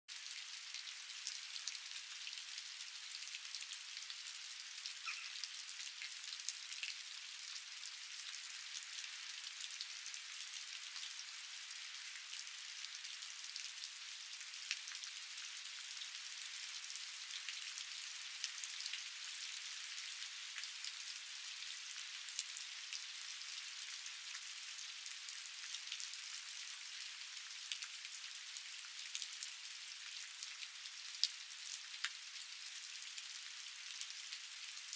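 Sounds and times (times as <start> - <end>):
raindrops ticking on surfaces: 0.1 - 34.9
steady rain falling: 0.1 - 34.9.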